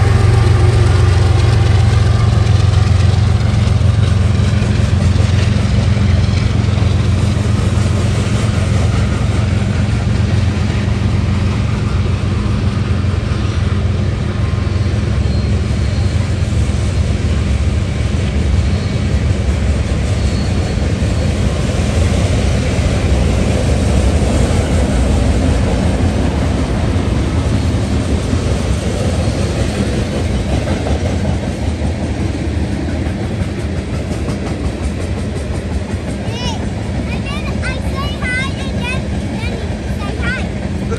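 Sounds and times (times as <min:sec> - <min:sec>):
freight cars rumbling over rails: 0:00.0 - 0:40.9
locomotive engine drone: 0:00.0 - 0:40.9.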